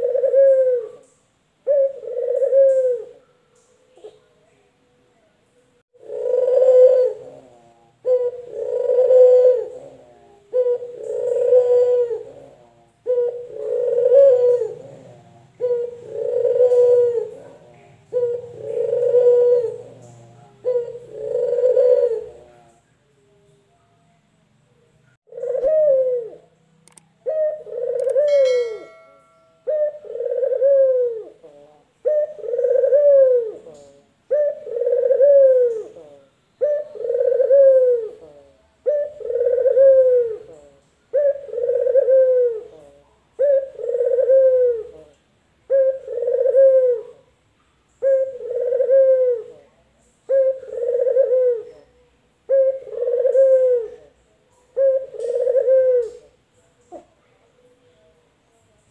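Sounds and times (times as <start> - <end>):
dove cooing: 0.0 - 3.3, 6.0 - 22.8, 25.3 - 26.6, 27.2 - 47.3, 48.0 - 57.2.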